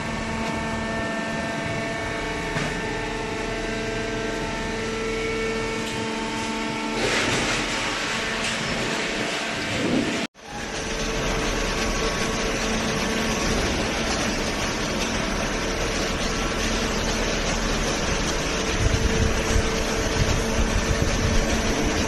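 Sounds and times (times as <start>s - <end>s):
baler mechanical hum and hiss: 0.0s - 22.0s.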